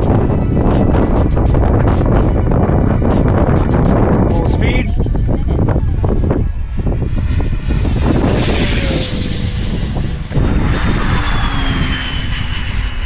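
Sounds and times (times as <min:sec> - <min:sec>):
electric ducted fan whine: 0:00.0 - 0:13.0
wind buffeting microphone: 0:00.0 - 0:13.0.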